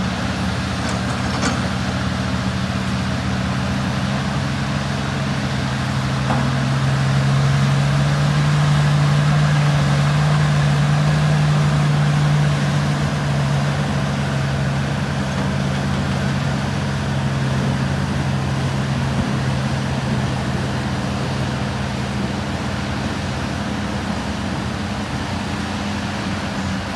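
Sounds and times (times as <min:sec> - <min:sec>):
excavator diesel engine droning: 0:00.0 - 0:26.9.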